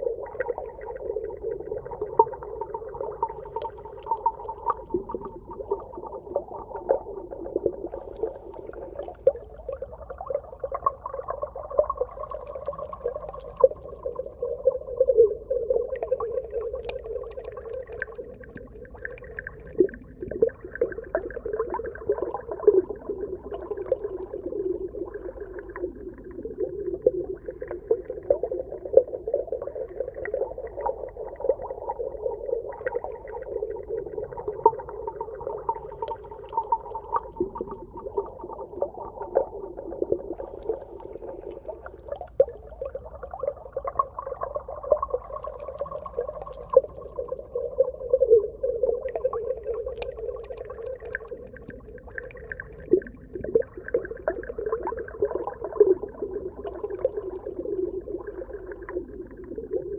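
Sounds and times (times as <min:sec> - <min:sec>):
low underwater hum: 0:00.0 - 0:59.9.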